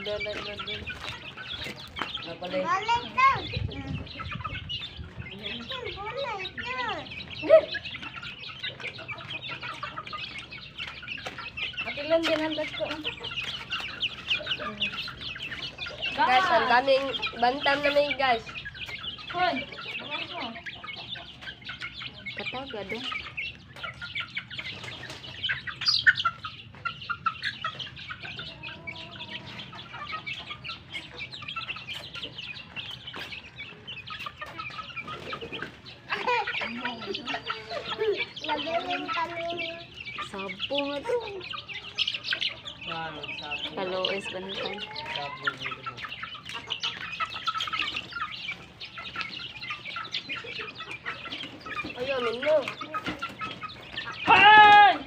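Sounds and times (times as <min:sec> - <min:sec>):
chicks peeping and clucking: 0:00.0 - 0:55.0.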